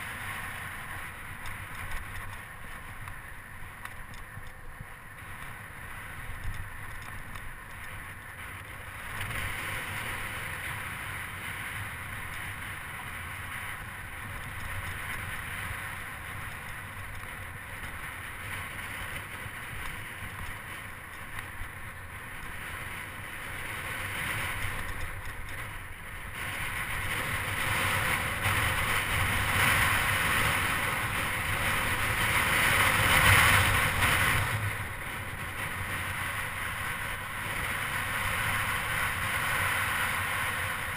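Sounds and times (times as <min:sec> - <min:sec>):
tyres rumbling on rough asphalt: 0:00.0 - 0:40.9
wind rushing over microphone: 0:00.0 - 0:40.9.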